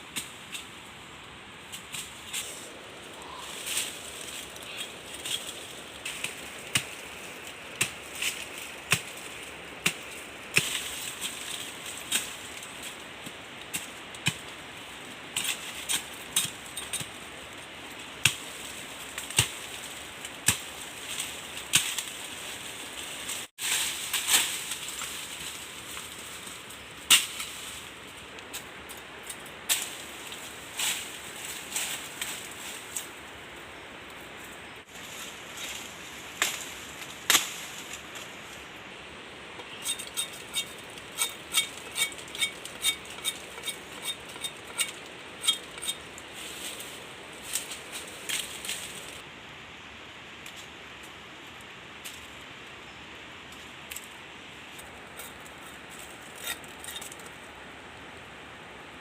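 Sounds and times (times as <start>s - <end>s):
steady fire hiss: 0.0s - 59.0s.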